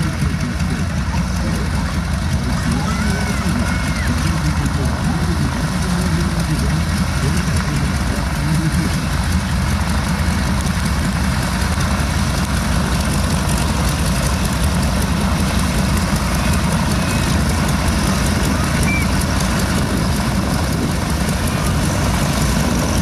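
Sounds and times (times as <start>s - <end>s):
radial aircraft engines running: 0.0s - 23.0s.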